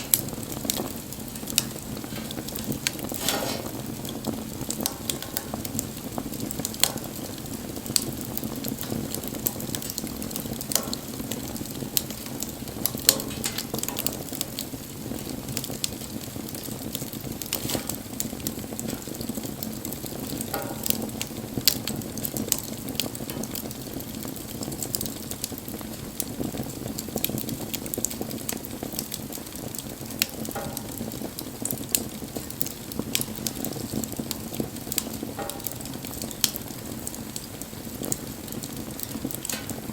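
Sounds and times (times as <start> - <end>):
burning wood crackling and popping: 0.0 - 39.9.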